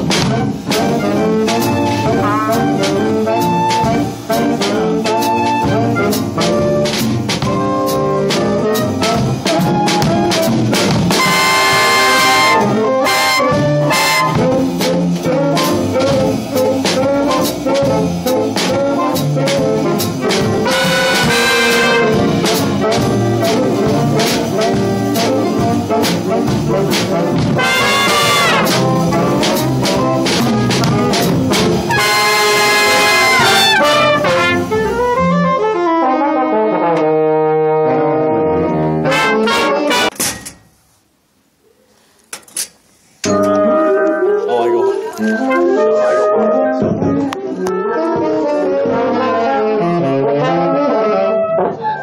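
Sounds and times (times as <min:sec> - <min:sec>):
jazzy brass music over a beat: 0:00.0 - 0:40.3, 0:43.4 - 0:51.8.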